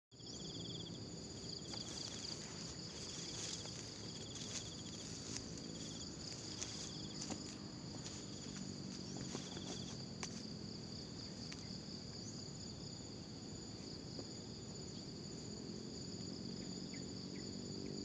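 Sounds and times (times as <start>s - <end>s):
insect pulsed trills: 0.1s - 18.0s
insects trilling: 0.2s - 18.0s.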